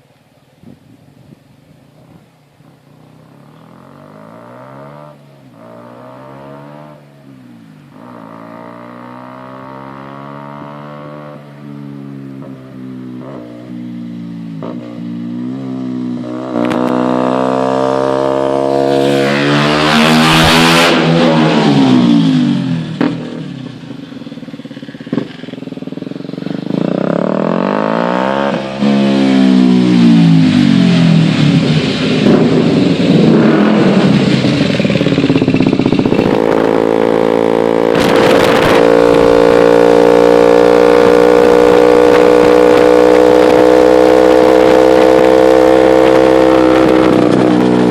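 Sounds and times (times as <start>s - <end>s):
motorcycle engine revving: 2.8s - 47.9s.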